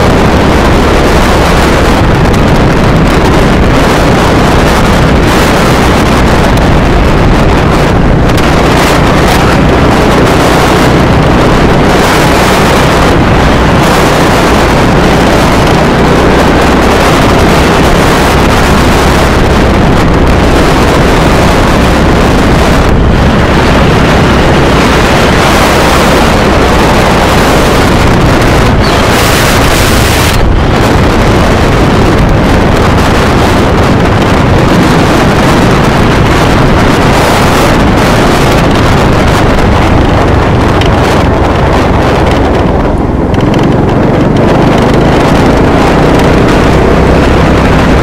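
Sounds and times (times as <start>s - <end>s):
motorcycle engine drone: 0.0s - 48.0s
wind noise on microphone: 0.0s - 48.0s.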